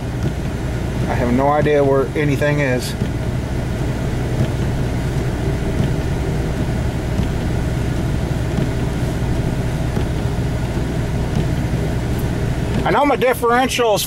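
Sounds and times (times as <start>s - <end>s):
front-end vehicle noise: 0.0s - 14.0s
vehicle engine and tyre drone: 0.0s - 14.0s.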